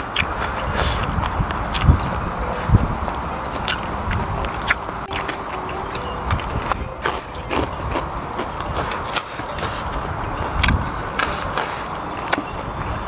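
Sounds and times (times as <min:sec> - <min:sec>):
wind rumble on microphone: 0:00.0 - 0:05.2, 0:06.2 - 0:13.0
close chewing with mouth clicks: 0:00.0 - 0:13.0.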